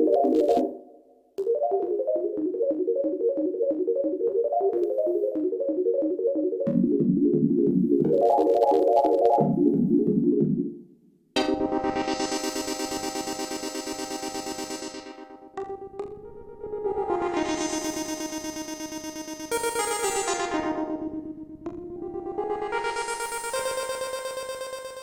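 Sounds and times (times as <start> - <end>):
electric piano synth sequence: 1.4 - 10.8, 11.4 - 25.0.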